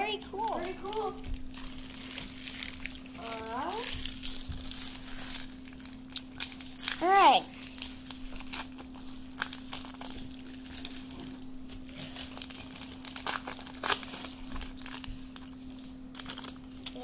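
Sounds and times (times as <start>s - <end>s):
faint steady hum: 0.0s - 17.0s
foil wrapper crinkling and tearing: 0.0s - 17.0s.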